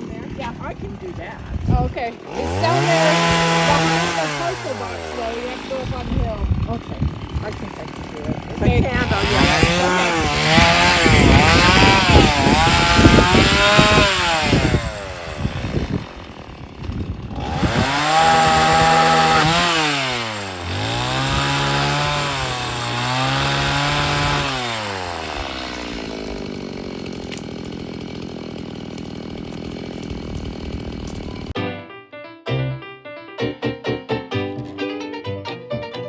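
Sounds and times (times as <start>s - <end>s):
chainsaw revving cutting wood: 0.0s - 31.6s.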